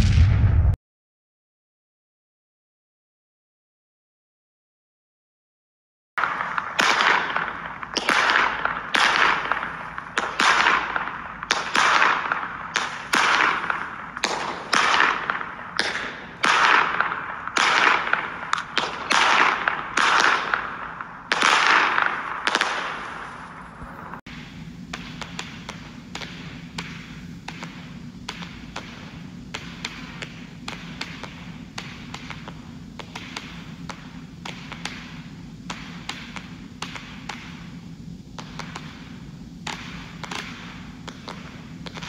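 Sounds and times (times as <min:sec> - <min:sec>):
firework shots with hiss: 0:00.0 - 0:00.8, 0:06.2 - 0:42.0.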